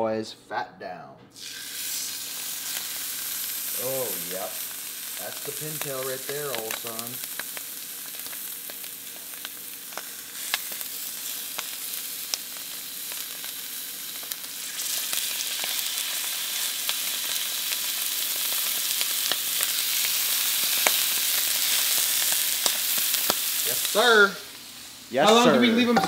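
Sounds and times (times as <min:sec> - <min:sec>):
meat sizzling in a skillet: 0:01.4 - 0:26.0.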